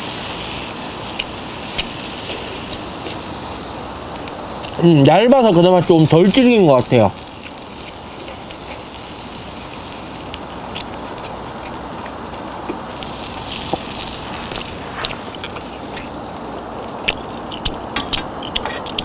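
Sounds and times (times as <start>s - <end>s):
steak sizzling in a pan: 0.0s - 16.1s.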